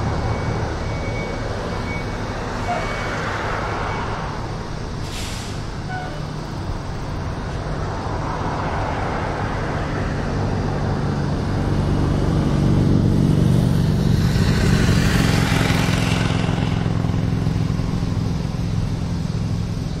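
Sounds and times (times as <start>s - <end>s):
diesel engine running: 0.0s - 20.0s
road noise: 0.0s - 20.0s.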